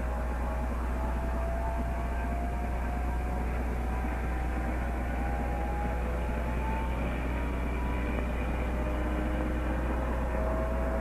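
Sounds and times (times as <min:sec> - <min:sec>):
electric motor whine: 0:00.0 - 0:11.0
film soundtrack hum and hiss: 0:00.0 - 0:11.0.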